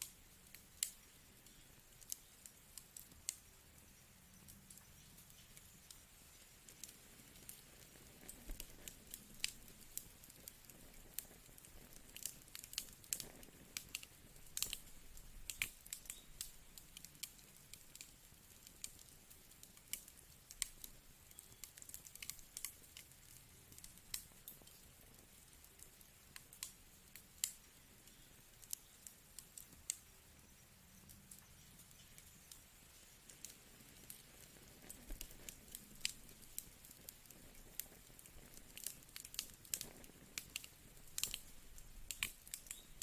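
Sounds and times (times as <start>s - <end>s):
faint low hiss: 0.0s - 43.0s
wood fire crackling: 0.0s - 43.0s.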